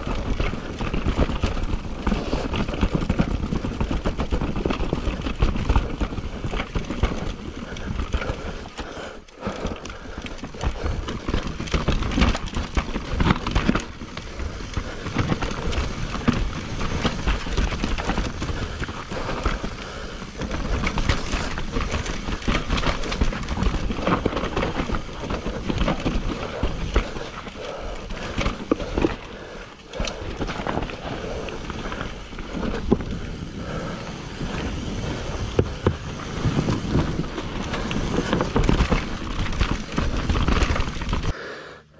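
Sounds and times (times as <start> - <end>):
bike rattling and knocking: 0.0 - 41.4
bike tyres rumbling on dirt: 0.0 - 41.4.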